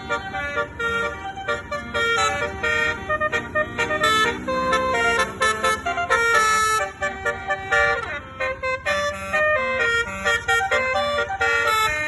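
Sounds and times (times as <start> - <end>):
bus air horn playing a tune: 0.0 - 12.0.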